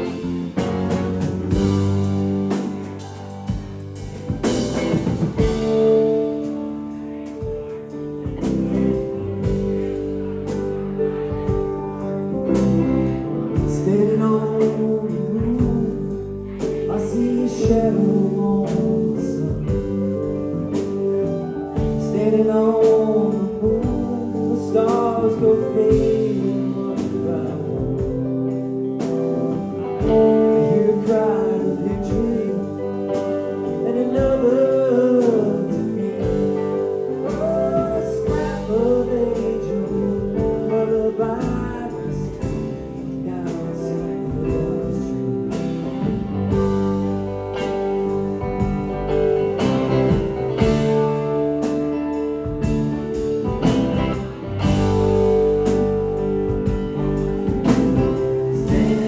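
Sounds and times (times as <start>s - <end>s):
bending guitar lead line: 0.0s - 59.0s
live band playing: 0.0s - 59.0s.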